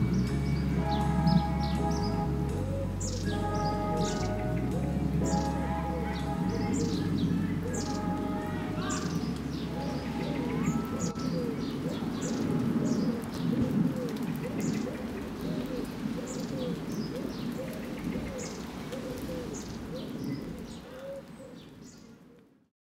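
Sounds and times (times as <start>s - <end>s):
small birds chirping: 0.0s - 22.3s
background hiss: 0.0s - 22.4s
pigeon cooing: 1.0s - 22.5s.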